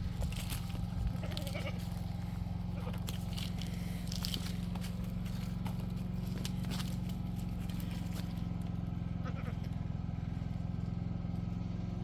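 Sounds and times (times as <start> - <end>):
goat hooves clattering: 0.0 - 11.5
steady low hum: 0.0 - 12.0.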